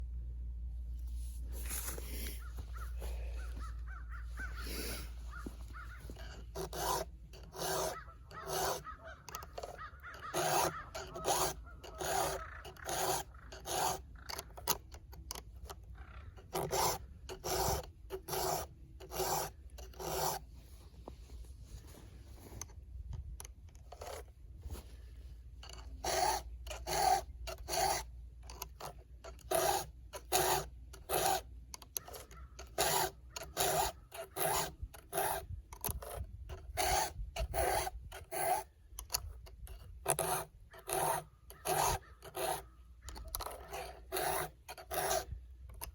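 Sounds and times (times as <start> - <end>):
file rasping on chainsaw chain: 4.4 - 20.5, 23.4 - 24.4, 25.6 - 45.9.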